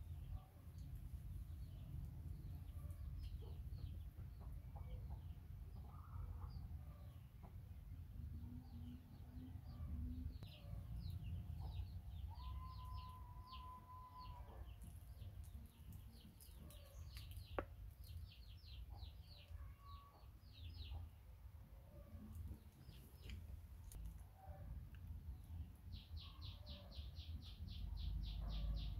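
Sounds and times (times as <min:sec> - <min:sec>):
small birds chirping: 0:00.0 - 0:07.6, 0:08.4 - 0:21.3, 0:21.9 - 0:28.9.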